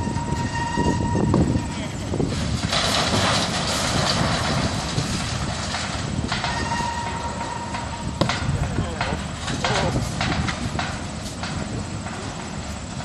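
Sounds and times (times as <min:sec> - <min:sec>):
crane engine rumbling: 0:00.0 - 0:13.0
high whine: 0:00.0 - 0:13.0.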